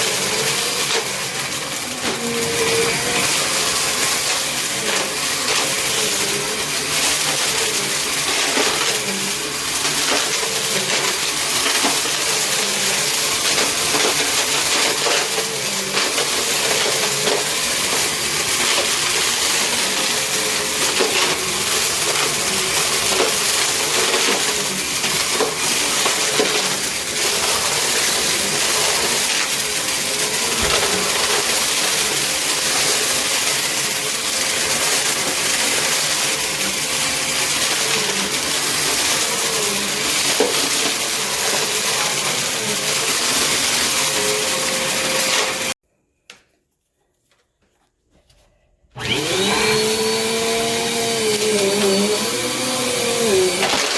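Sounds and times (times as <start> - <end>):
debris crackling in vacuum: 0.0 - 45.8, 49.0 - 53.9
vacuum cleaner whining: 0.0 - 45.8, 48.9 - 53.9.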